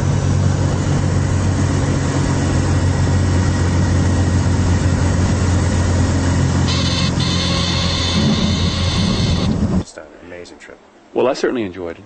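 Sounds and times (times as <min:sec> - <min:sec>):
light aircraft engine drone: 0:00.0 - 0:09.9.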